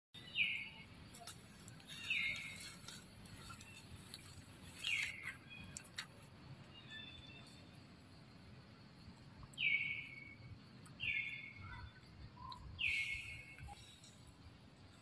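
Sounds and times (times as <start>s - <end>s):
bird chirping: 0.2s - 8.4s, 9.1s - 15.0s.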